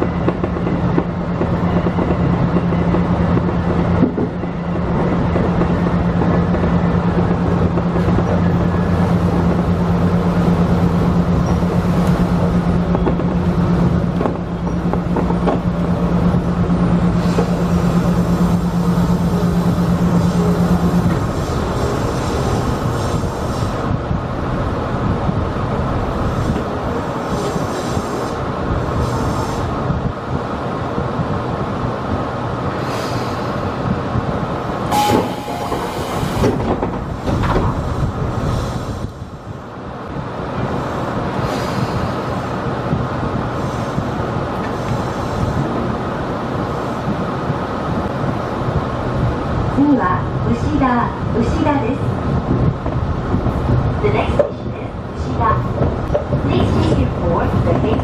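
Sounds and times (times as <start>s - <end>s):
electric train running on track: 0.0s - 58.0s.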